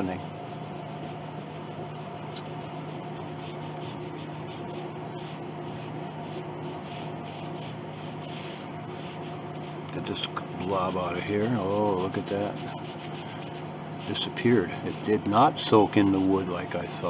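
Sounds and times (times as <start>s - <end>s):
cloth scrubbing wood: 0.0s - 17.0s.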